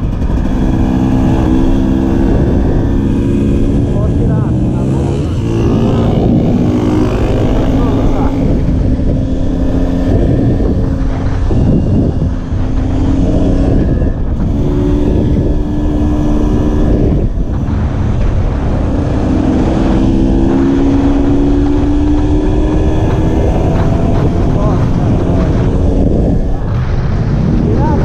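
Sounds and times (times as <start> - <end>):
two-stroke motorcycle engine: 0.0 - 28.0
wind noise on microphone: 0.0 - 28.0.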